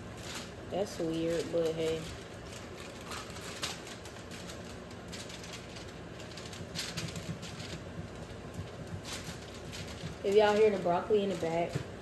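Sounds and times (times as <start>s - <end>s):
cooking ticks and crackles: 0.0s - 12.0s.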